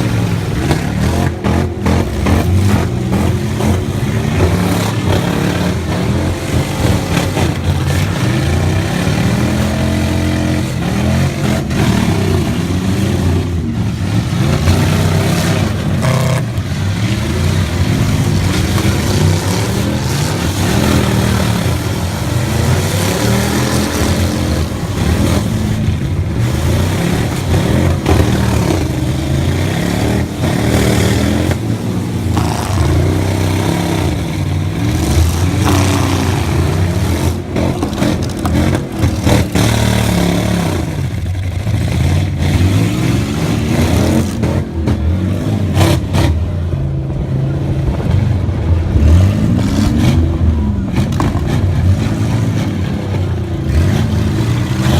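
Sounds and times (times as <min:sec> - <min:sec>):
truck engines revving: 0:00.0 - 0:54.9.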